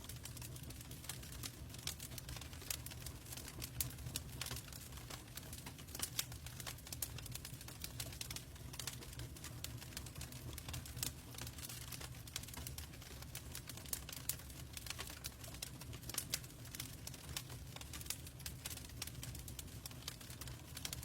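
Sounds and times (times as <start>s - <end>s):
wood fire crackling: 0.0s - 21.0s
fire popping: 0.1s - 21.0s.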